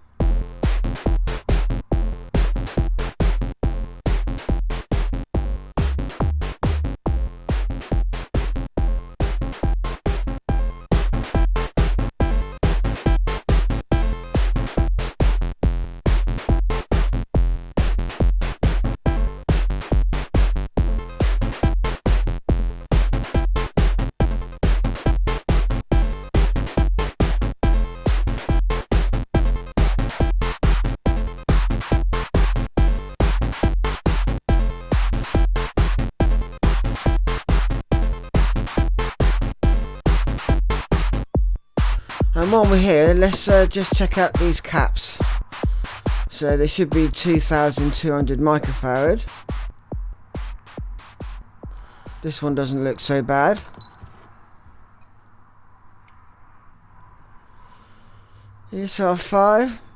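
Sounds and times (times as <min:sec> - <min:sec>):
deep bass: 0:00.0 - 0:52.3
drum machine beat: 0:00.2 - 0:52.4.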